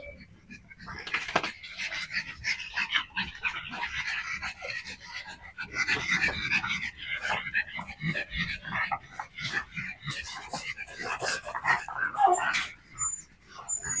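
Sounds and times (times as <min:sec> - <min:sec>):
dogs panting: 0:00.0 - 0:14.0
small dogs play-fighting: 0:00.0 - 0:14.0.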